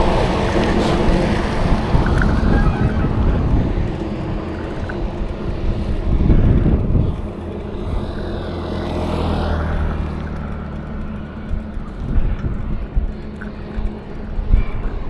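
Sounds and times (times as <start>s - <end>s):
vehicle passing close: 0.0s - 14.5s
vehicle engine rumble: 0.0s - 15.0s.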